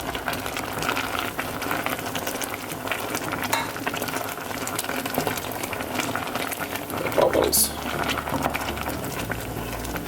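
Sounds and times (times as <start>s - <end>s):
sauce boiling and bubbling: 0.0s - 10.0s.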